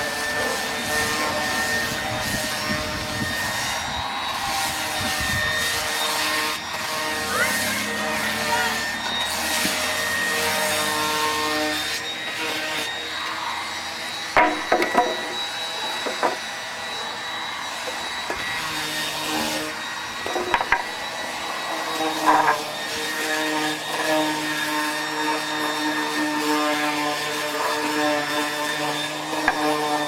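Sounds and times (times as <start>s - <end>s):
wood sanding: 0.0s - 30.0s.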